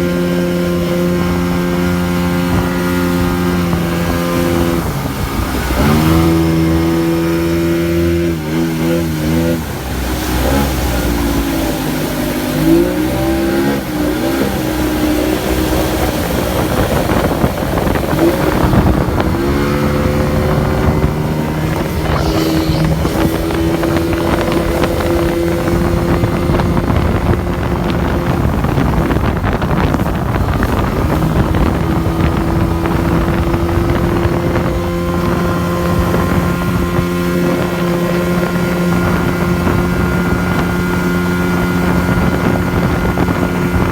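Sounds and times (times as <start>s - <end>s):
motorboat engine running: 0.0s - 43.9s
wind noise on microphone: 0.0s - 43.9s.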